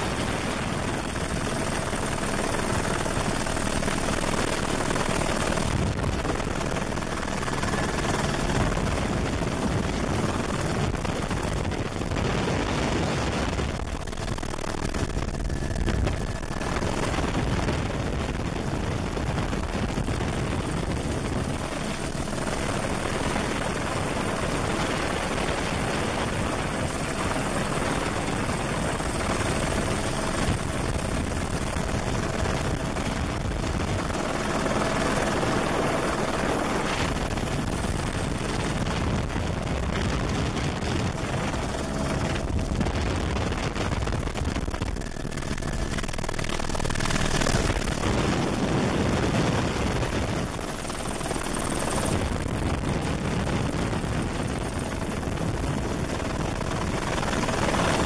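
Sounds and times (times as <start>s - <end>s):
faint steady whine: 0.0s - 58.0s
helicopter rotor and turbine noise: 0.0s - 58.0s.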